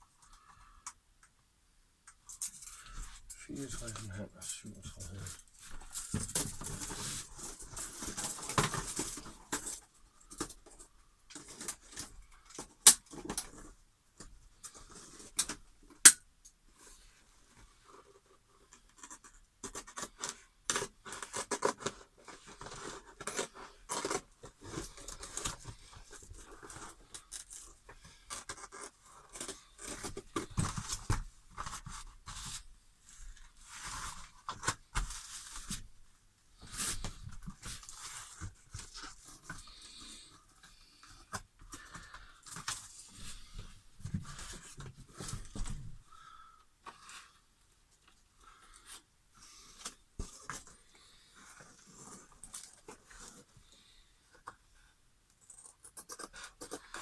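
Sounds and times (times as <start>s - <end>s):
materials rustling and scraping: 2.2s - 15.7s, 16.7s - 53.8s.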